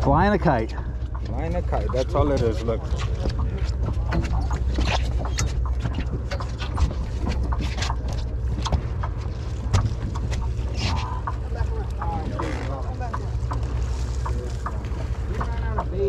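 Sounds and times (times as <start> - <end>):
boat engine drone: 0.0 - 16.0
irregular clicks and knocks: 0.0 - 16.0.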